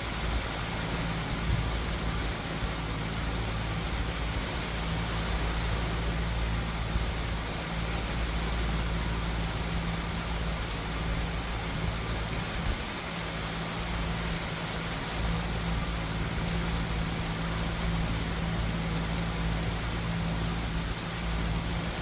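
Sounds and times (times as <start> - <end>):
constant low rumble: 0.0 - 22.0
steady rainfall: 0.0 - 22.0.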